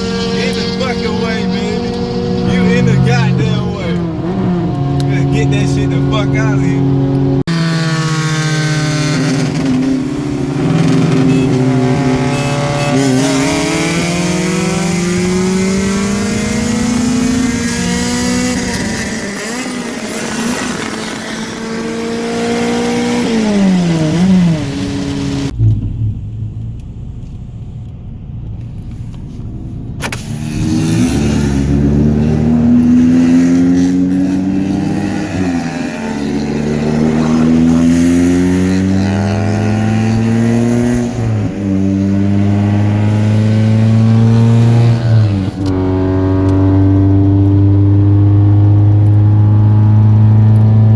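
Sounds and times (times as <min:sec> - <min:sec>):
car engine accelerating hard: 0:00.0 - 0:50.9.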